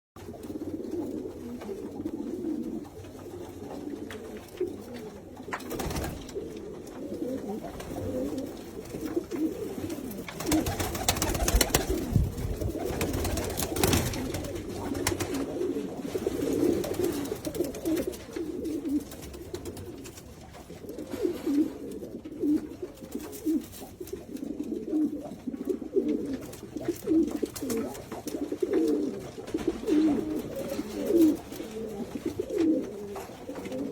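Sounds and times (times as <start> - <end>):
pigeons cooing: 0.2 - 33.9.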